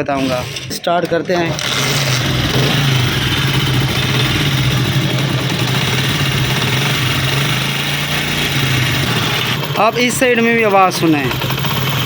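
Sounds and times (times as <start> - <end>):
motorcycle engine idling: 1.6 - 12.0.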